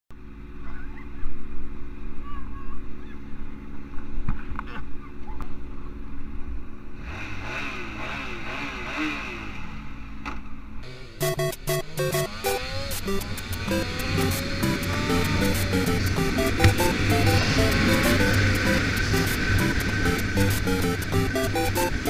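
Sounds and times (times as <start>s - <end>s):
motorcycle engine idling and revving: 0.1s - 22.0s.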